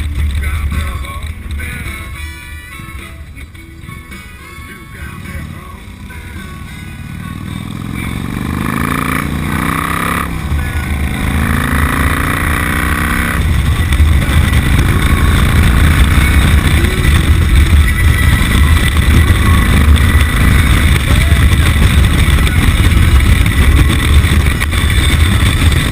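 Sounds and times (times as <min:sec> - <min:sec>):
motorcycle engine accelerating: 0:00.0 - 0:25.9.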